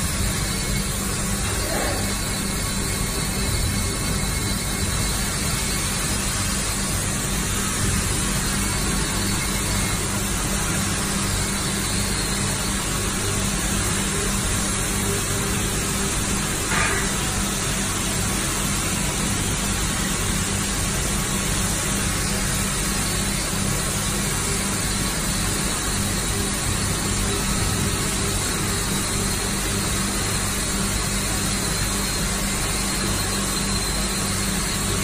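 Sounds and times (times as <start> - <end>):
washing machine hiss and hum: 0.0 - 35.0.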